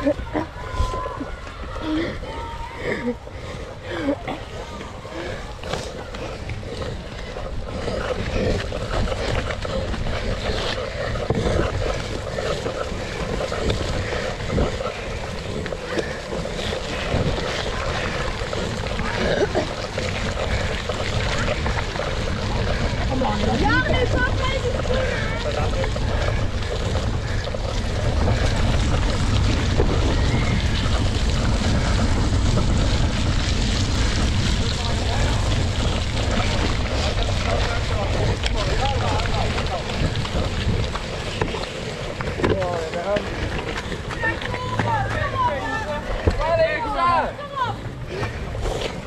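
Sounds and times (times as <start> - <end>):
bike rumbling over rough ground: 0.0 - 49.0
wind buffeting microphone: 0.0 - 49.0.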